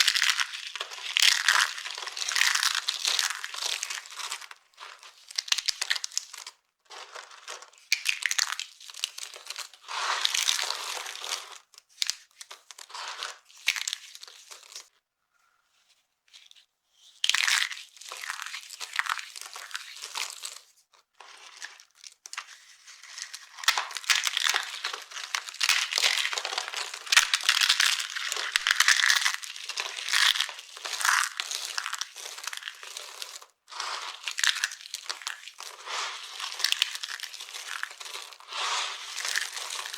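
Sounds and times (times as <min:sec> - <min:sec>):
dry soap crackling and crunching: 0:00.0 - 0:14.9, 0:17.2 - 0:39.9.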